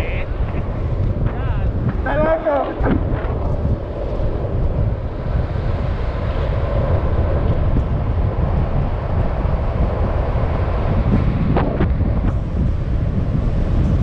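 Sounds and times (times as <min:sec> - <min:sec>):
skateboard wheels rolling on asphalt: 0:00.0 - 0:14.0
wind buffeting microphone: 0:00.0 - 0:14.0.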